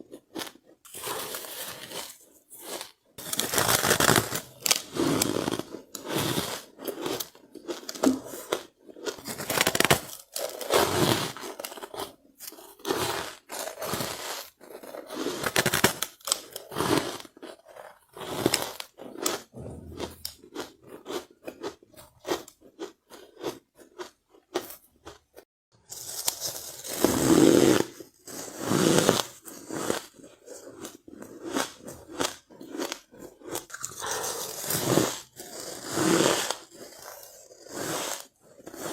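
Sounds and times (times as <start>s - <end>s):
chewing crunchy ice: 0.0s - 25.4s, 26.0s - 38.9s.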